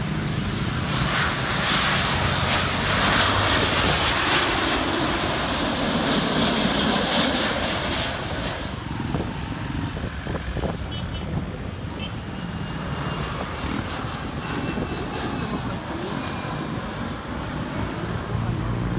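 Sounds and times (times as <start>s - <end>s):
high engine whine: 0.0s - 18.9s
jet engines rumbling: 0.0s - 18.9s.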